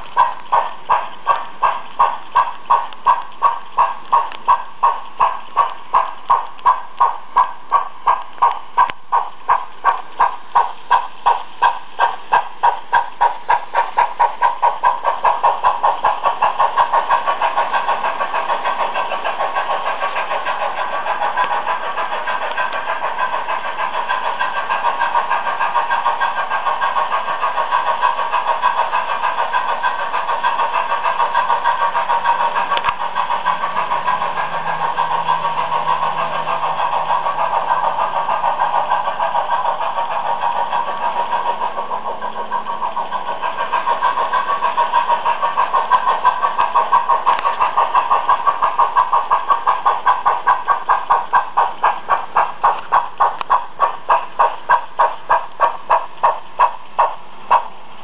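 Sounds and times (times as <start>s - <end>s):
model train wheels rattling on rails: 0.0s - 58.0s.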